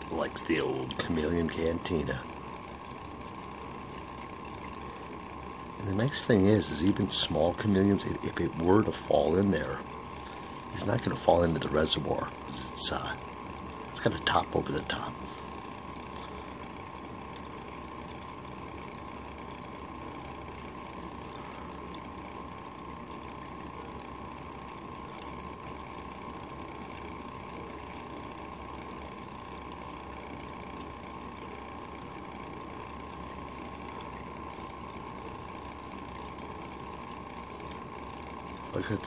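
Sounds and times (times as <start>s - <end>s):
drinking fountain water trickling: 0.0s - 39.0s.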